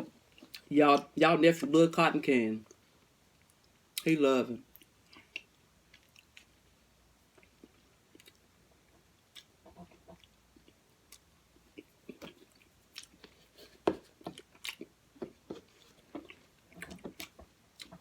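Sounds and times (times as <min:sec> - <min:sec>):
soft chewing: 0:00.0 - 0:01.1, 0:02.6 - 0:18.0.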